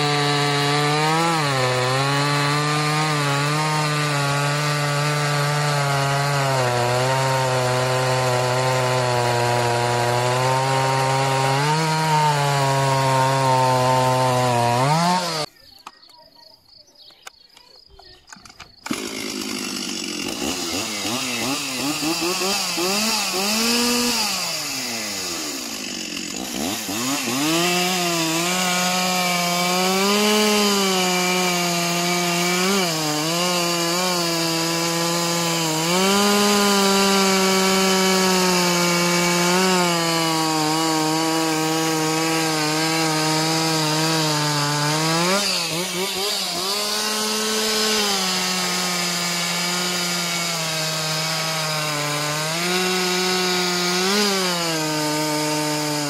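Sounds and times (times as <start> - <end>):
chainsaw cutting log: 0.0 - 15.5, 18.4 - 56.0.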